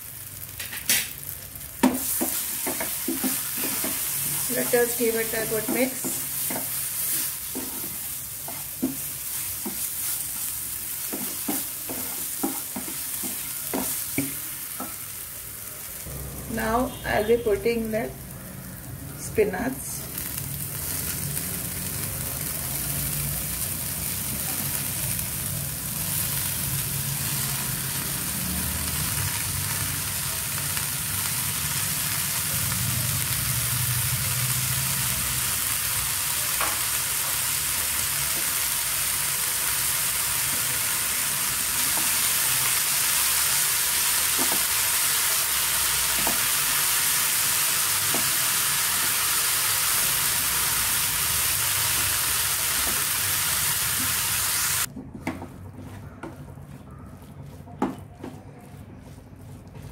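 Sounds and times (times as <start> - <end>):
spinach sizzling in hot oil: 0.0 - 54.9.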